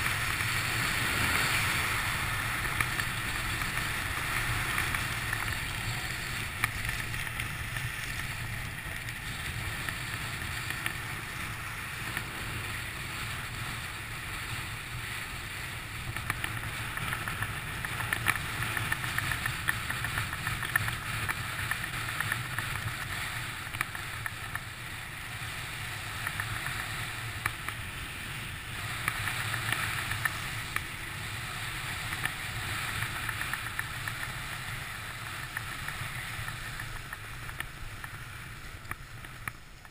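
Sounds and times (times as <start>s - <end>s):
skis scraping over snow: 0.0s - 39.9s.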